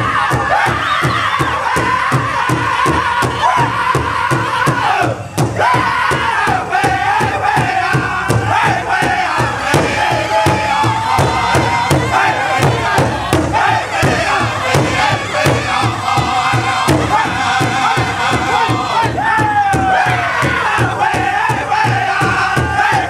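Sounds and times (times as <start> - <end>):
big drum beating: 0.0 - 23.0
men singing high-pitched: 0.0 - 23.0.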